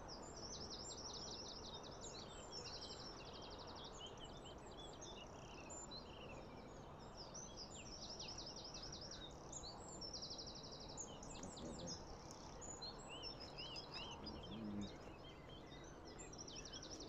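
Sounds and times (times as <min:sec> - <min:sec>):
low background hiss: 0:00.0 - 0:17.0
small birds singing: 0:00.0 - 0:17.0.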